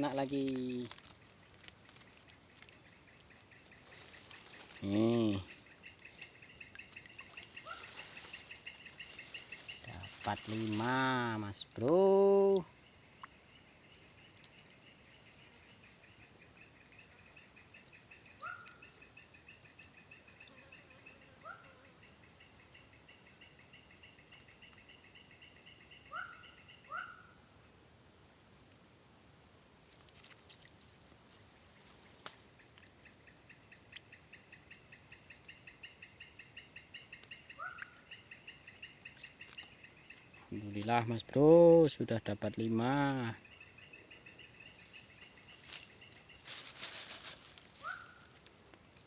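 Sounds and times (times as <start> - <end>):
high insect whine: 0.0 - 49.0
insect pulsed trill: 0.0 - 49.0.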